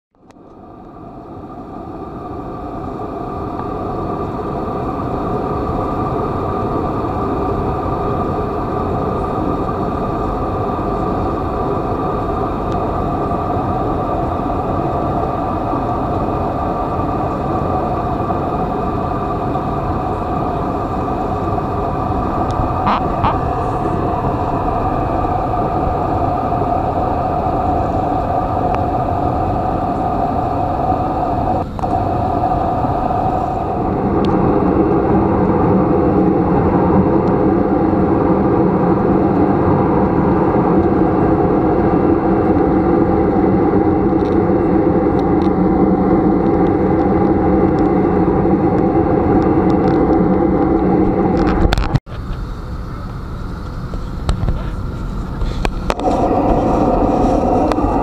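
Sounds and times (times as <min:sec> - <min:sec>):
jet engines drone in cabin: 0:00.1 - 0:58.0.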